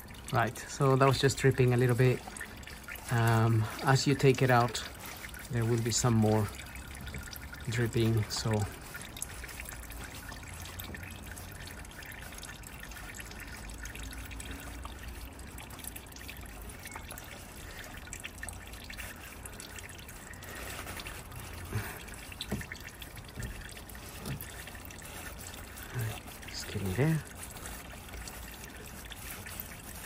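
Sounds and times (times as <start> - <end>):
oil dripping: 0.0 - 30.0
oil trickling into a drain pan: 0.0 - 30.0.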